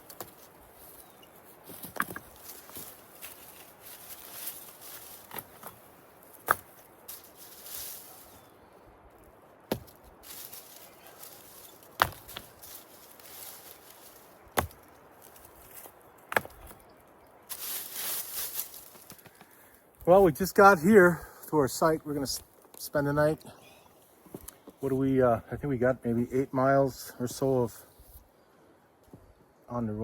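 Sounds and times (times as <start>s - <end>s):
faint outdoor background: 0.0s - 30.0s.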